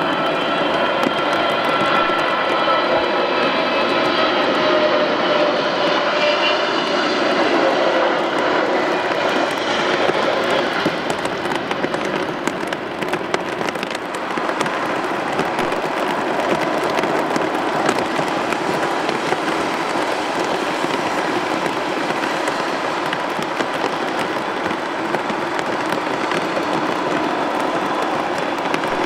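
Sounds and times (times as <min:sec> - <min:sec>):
jet engines whining: 0:00.0 - 0:29.0
rushing noise with crackle: 0:00.0 - 0:29.0.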